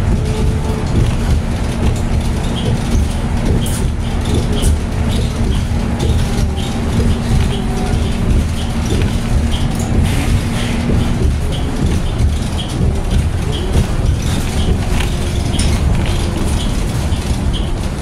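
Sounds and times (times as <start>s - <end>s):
bus road rumble: 0.0s - 18.0s
cabin fittings rattling: 0.0s - 18.0s
constant hum: 0.0s - 18.0s.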